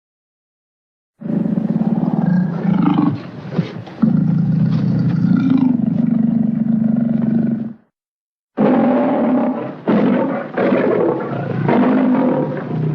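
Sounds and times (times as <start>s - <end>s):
lion growling: 1.2s - 7.8s, 8.6s - 12.9s.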